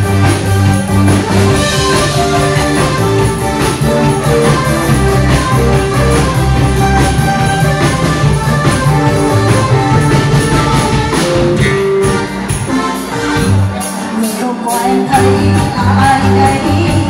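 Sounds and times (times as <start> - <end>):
drums: 0.0 - 17.0
guitar: 0.0 - 17.0.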